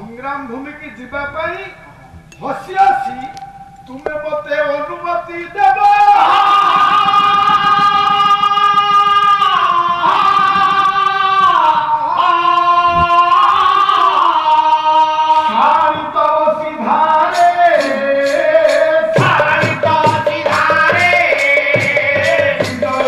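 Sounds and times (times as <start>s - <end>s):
man singing long high notes: 2.4s - 23.0s.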